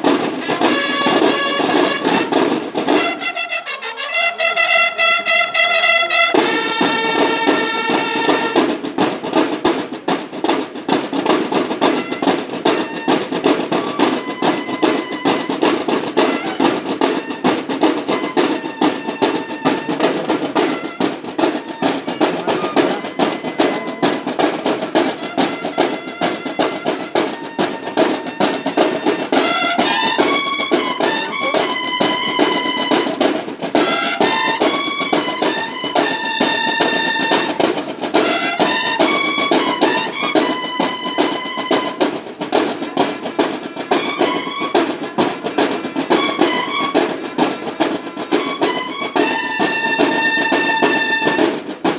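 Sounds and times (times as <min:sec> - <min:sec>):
bugles playing: 0:00.0 - 0:08.8, 0:11.3 - 0:51.6
snare drums fast cadence: 0:00.0 - 0:51.9.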